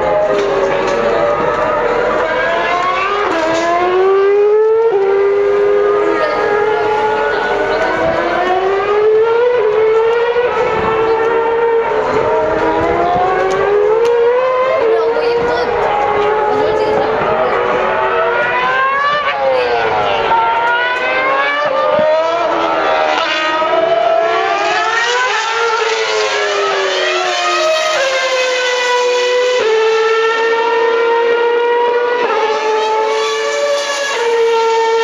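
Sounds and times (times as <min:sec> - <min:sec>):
racing car engines revving: 0:00.0 - 0:35.0.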